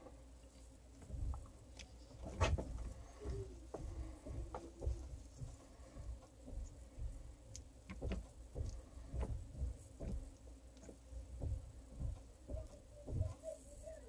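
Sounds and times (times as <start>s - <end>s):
soft low thumps: 0.8s - 14.0s.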